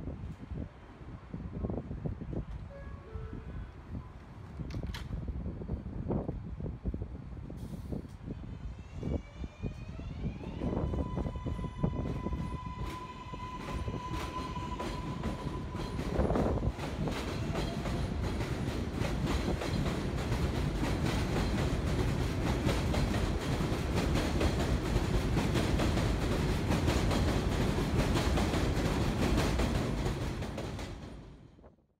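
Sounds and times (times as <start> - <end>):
train rumble: 0.1 - 31.8.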